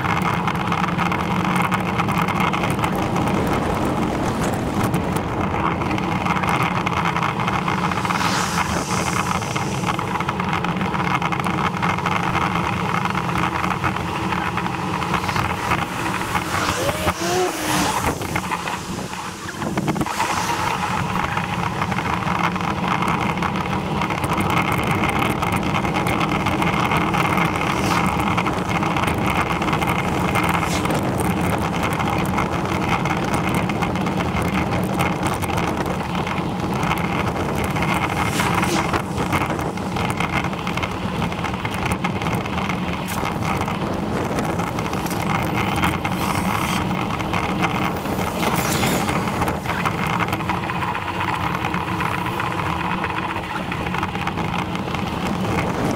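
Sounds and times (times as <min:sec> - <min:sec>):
bicycle clicks from bumps: 0:00.0 - 0:08.0, 0:09.9 - 0:18.6, 0:21.0 - 0:55.9
bicycle tyres rolling on tarmac: 0:00.0 - 0:55.9
wind on the microphone: 0:01.5 - 0:55.9.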